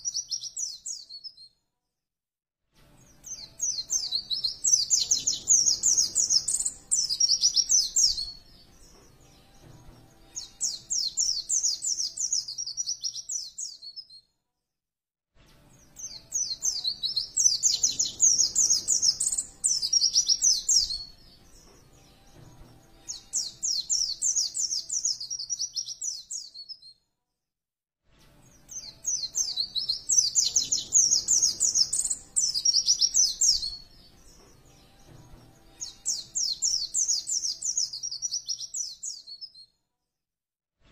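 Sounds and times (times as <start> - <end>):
bird chirping trills: 0.0 - 1.5, 3.0 - 14.2, 15.8 - 26.9, 28.5 - 39.6.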